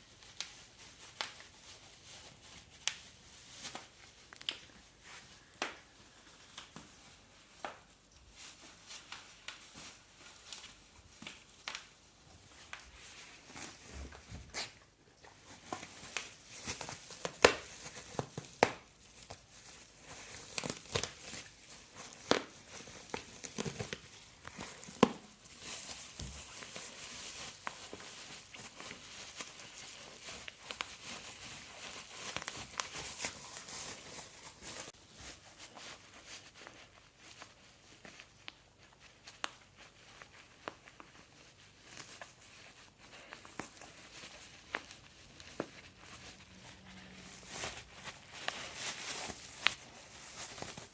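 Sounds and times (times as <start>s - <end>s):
bubble wrap popping: 0.0s - 14.8s, 15.5s - 50.9s
plastic crinkling: 0.0s - 50.9s.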